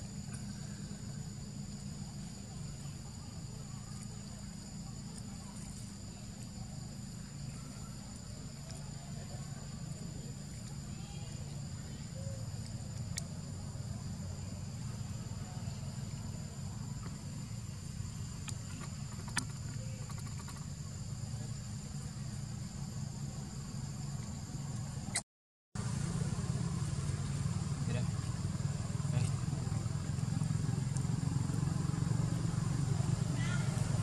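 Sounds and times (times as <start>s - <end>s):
insects droning: 0.0s - 25.2s, 25.8s - 34.0s.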